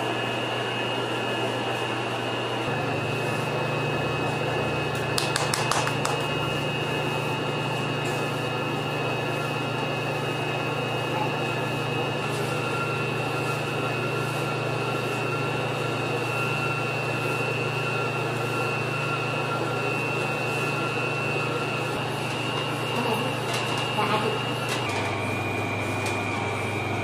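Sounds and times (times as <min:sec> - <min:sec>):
dough mixer motor hum and whine: 0:00.0 - 0:27.0.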